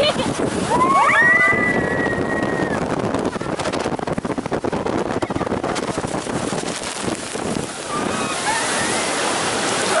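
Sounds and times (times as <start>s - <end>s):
boat rushing down track: 0.0s - 10.0s
wind buffeting microphone: 0.0s - 10.0s.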